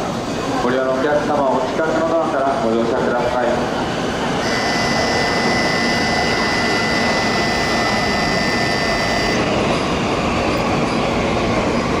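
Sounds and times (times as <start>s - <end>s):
steady high-pitched whine: 0.0s - 12.0s
train rolling slowly: 0.0s - 12.0s.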